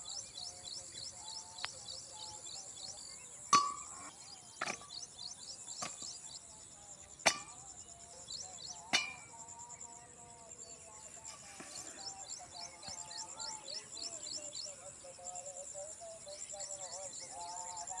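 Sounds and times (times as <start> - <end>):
bird chirps: 0.0 - 18.0
insect trill: 0.0 - 18.0.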